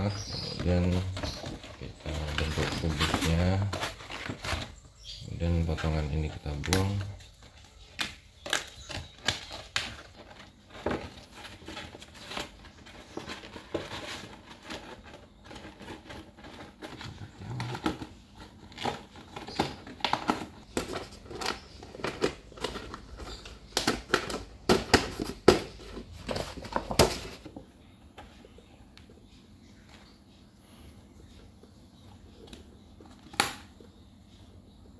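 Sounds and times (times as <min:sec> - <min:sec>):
plastic panels clicking and crinkling: 0:00.0 - 0:28.5.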